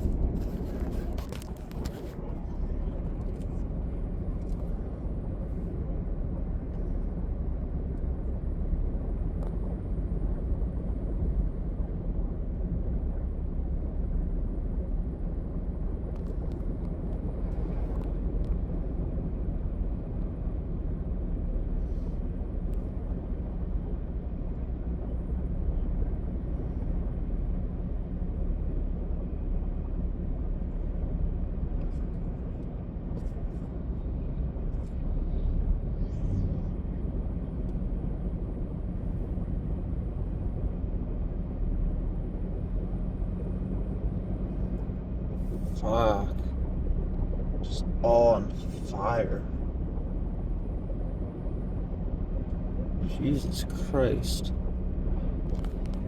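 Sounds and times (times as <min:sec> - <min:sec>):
low rumbling noise: 0:00.0 - 0:56.0.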